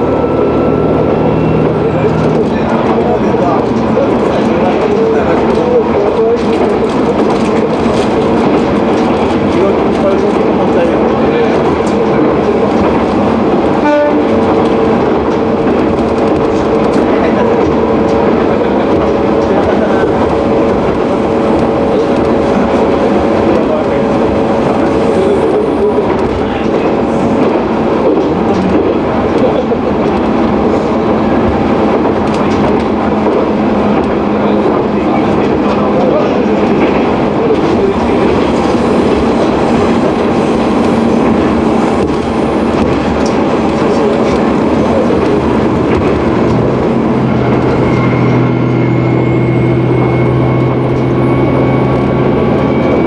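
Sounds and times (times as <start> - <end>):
railcar running noise: 0.0 - 53.0.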